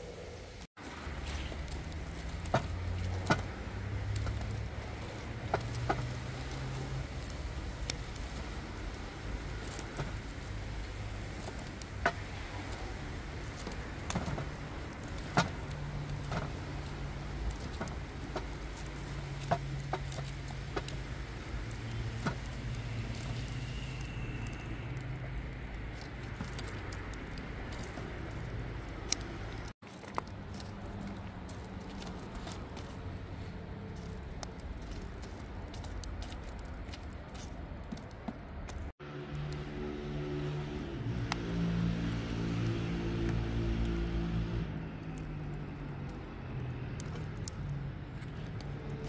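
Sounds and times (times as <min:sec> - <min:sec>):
wood fire crackling: 0:00.0 - 0:49.0
fire pops: 0:00.1 - 0:49.0.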